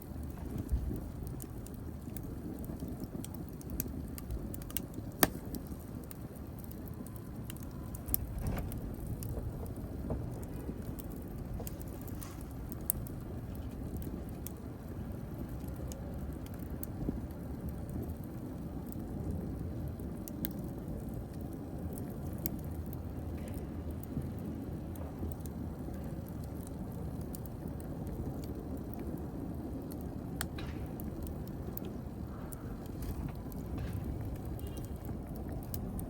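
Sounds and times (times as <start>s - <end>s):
fire crackling and popping: 0.0s - 36.0s
low rush of flames: 0.0s - 36.0s.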